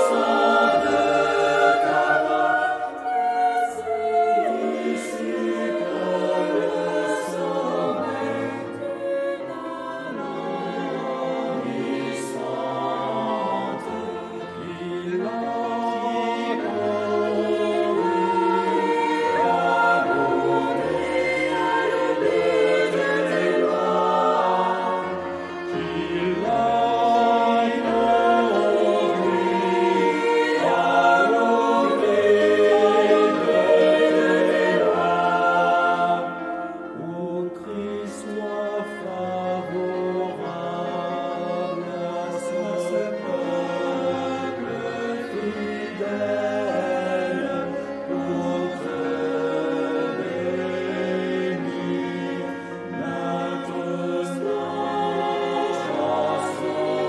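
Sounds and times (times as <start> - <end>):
choir singing chant-like notes: 0.0 - 57.0.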